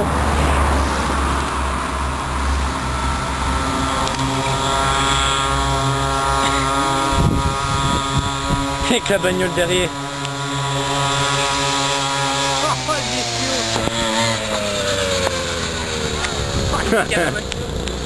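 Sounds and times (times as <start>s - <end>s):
small two-stroke engine buzzing: 0.0s - 18.0s.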